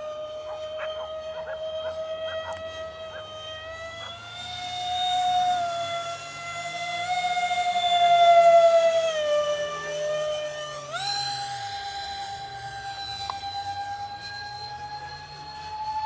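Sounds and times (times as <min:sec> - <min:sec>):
electric ducted fan whining: 0:00.0 - 0:16.0.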